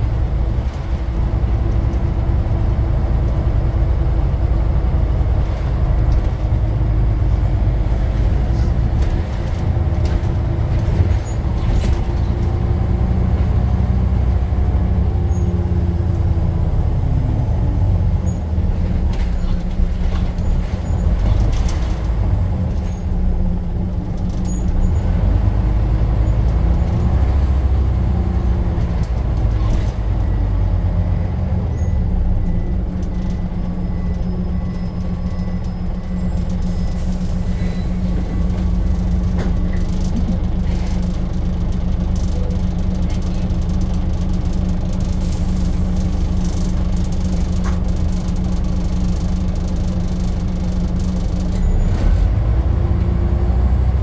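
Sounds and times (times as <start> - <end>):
bus diesel engine droning: 0.0 - 54.0.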